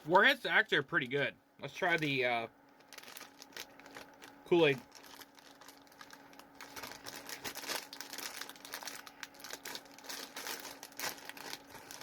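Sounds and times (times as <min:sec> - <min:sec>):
plastic bag crinkling: 0:01.8 - 0:12.0.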